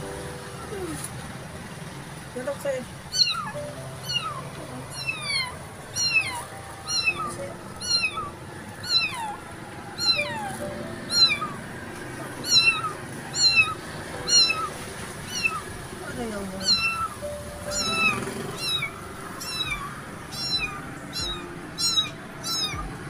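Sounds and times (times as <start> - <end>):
kitten meowing: 3.1 - 11.6, 12.2 - 23.0.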